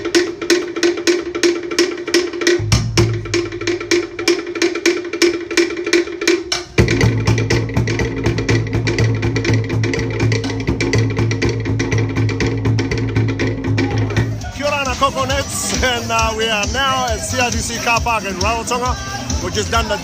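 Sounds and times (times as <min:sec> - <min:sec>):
deep skin drum: 0:00.0 - 0:20.0
wooden slit drums rapid rhythm: 0:00.0 - 0:20.0.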